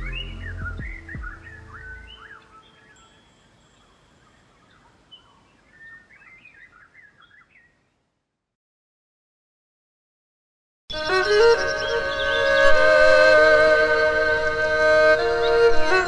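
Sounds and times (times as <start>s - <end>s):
birds chirping: 0.0s - 8.0s, 10.9s - 16.0s.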